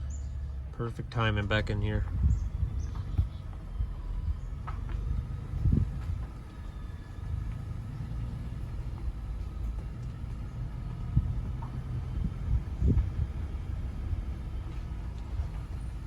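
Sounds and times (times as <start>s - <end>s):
vehicle driving rumble: 0.0s - 16.0s.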